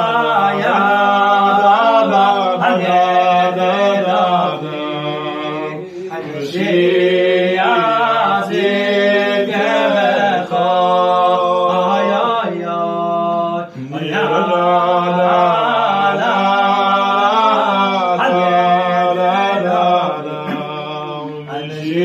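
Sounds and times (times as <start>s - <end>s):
men singing chant-like melody: 0.0s - 22.0s.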